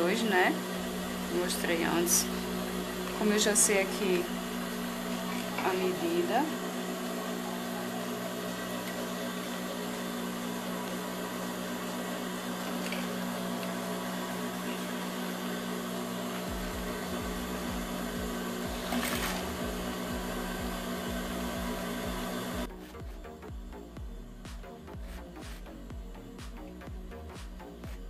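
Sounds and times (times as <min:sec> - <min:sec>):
sewing machine motor humming: 0:00.0 - 0:22.7.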